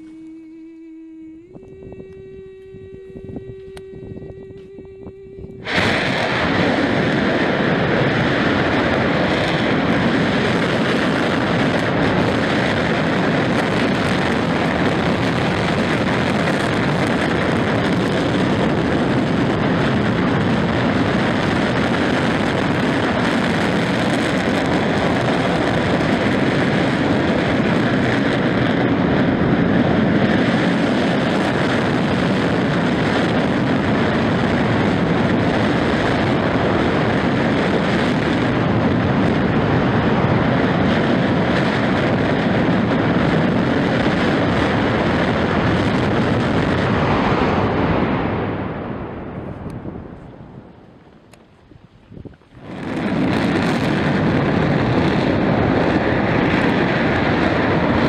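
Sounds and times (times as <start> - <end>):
volcano vent jet-like rushing: 5.6 - 51.3, 51.9 - 58.0.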